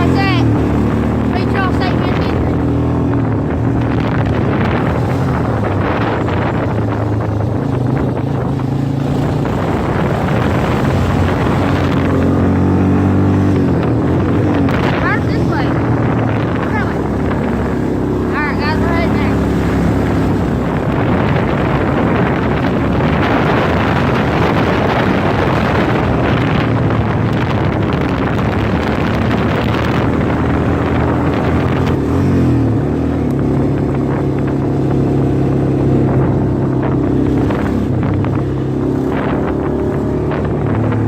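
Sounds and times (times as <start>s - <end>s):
car engine: 0.0s - 41.0s
road noise: 0.0s - 41.0s.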